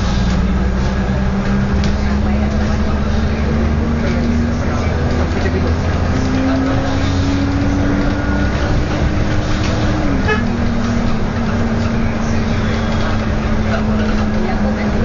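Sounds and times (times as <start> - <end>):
bus engine drone with whine: 0.0 - 15.0.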